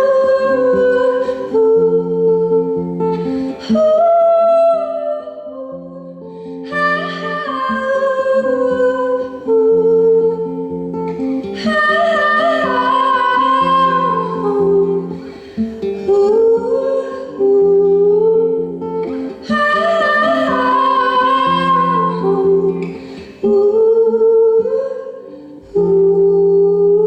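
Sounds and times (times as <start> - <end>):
person singing: 0.0 - 27.0
picked acoustic guitar: 0.0 - 27.0.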